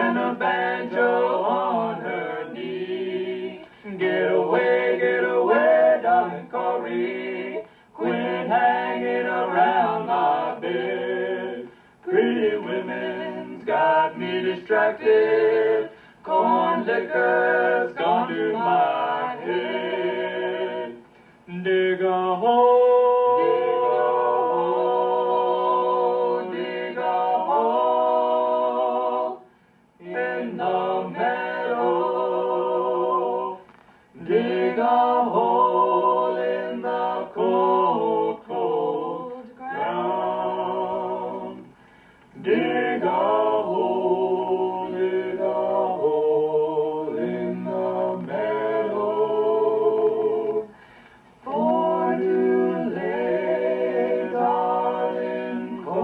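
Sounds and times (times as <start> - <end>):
a cappella trio singing: 0.0 - 56.0.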